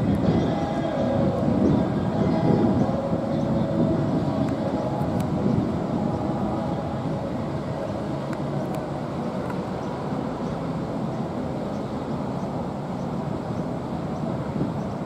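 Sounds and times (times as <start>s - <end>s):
ship engine rumble and hum: 0.0s - 15.0s.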